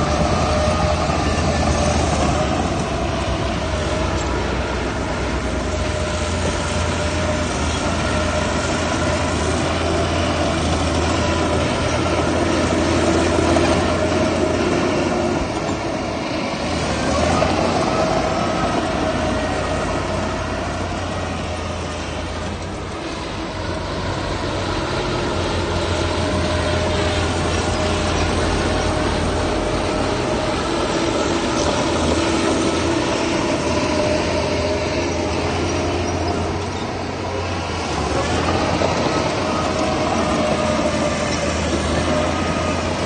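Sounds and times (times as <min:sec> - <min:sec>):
constant machine whine: 0:00.0 - 0:43.0
heavy diesel machinery droning: 0:00.0 - 0:43.0.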